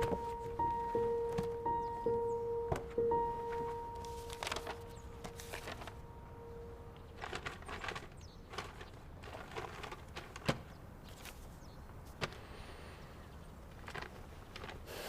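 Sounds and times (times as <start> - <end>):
faint rustling: 0.0 - 12.6.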